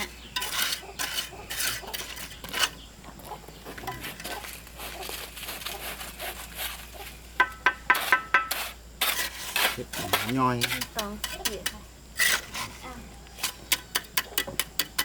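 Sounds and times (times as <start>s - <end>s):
utensil scraping a pan: 0.0s - 2.9s, 3.8s - 15.0s.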